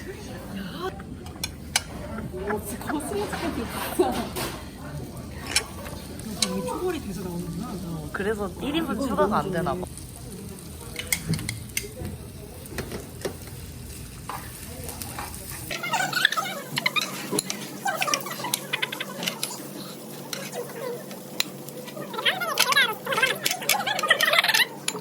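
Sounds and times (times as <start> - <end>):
faint voices: 0.0 - 25.0
light sizzle: 0.0 - 25.0
utensils clicking against dishes: 0.9 - 7.0, 10.8 - 25.0.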